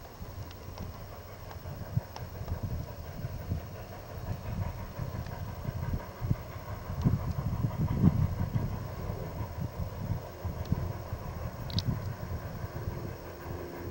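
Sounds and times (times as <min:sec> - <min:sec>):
steam locomotive rumbling past: 0:00.0 - 0:13.9.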